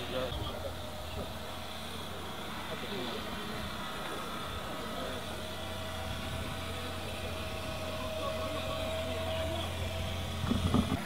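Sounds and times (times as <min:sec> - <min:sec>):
thin steady whine: 0:00.0 - 0:11.0
turbocharged engine idling: 0:00.0 - 0:11.0.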